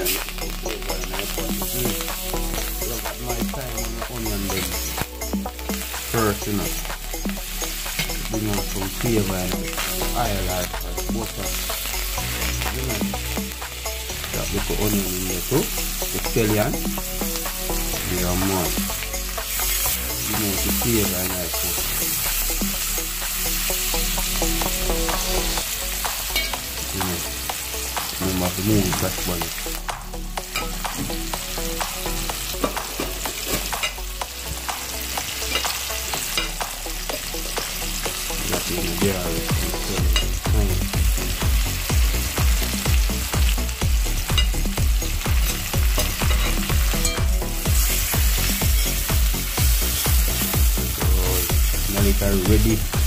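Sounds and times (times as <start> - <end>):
food sizzling in frying pan: 0.0 - 53.0.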